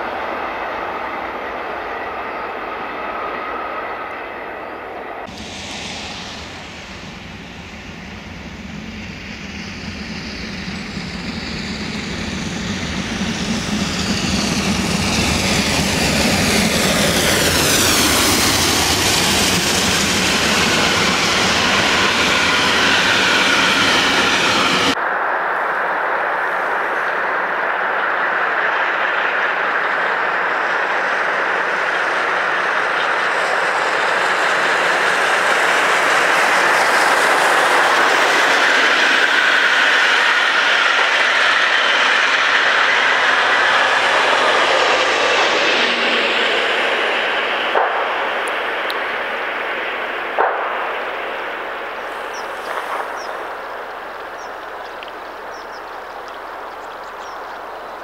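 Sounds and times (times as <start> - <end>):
steam train passing: 0.0 - 58.0.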